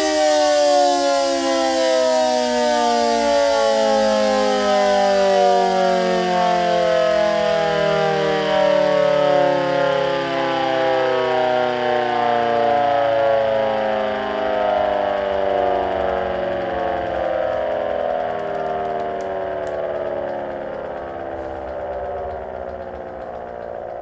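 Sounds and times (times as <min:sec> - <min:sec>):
siren winding down: 0:00.0 - 0:24.0.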